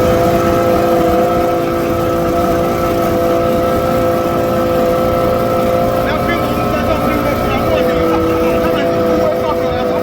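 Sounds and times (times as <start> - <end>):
motorboat engine droning: 0.0 - 10.0.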